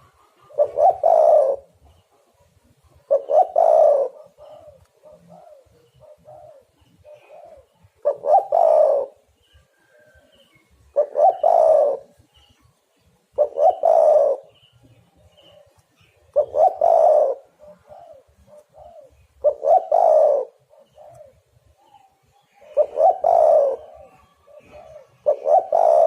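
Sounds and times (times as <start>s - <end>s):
dove cooing: 0.0s - 12.6s, 13.3s - 26.0s.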